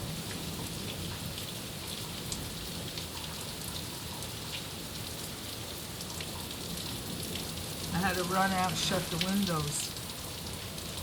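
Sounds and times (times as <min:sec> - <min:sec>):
heavy rain falling: 0:00.0 - 0:11.0
raindrops ticking on metal: 0:00.0 - 0:11.0.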